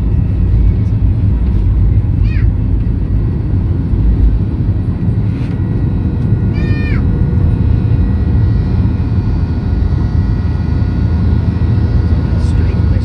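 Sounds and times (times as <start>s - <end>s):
faint whine tones: 0.0s - 13.0s
jet engine cabin roar: 0.0s - 13.0s.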